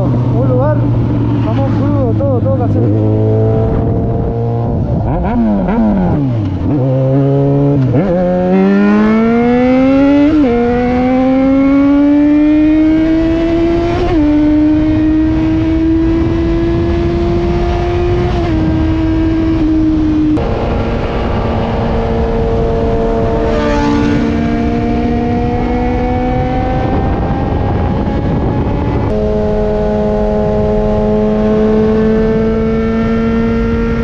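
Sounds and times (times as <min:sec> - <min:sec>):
motorcycle engine revving: 0:00.0 - 0:34.0
wind noise: 0:00.0 - 0:34.0.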